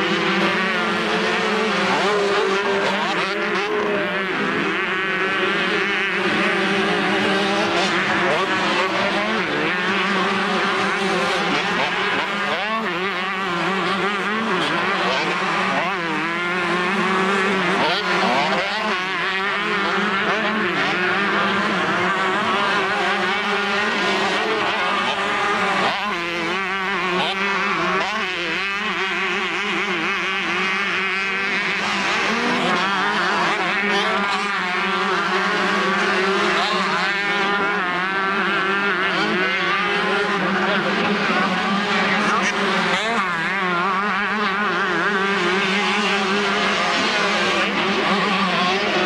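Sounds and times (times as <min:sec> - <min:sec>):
motocross bikes revving: 0:00.0 - 0:49.0.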